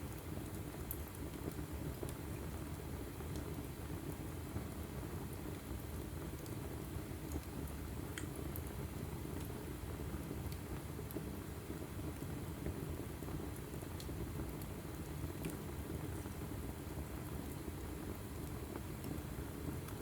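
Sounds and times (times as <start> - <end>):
burning wood crackling and popping: 0.0 - 20.0.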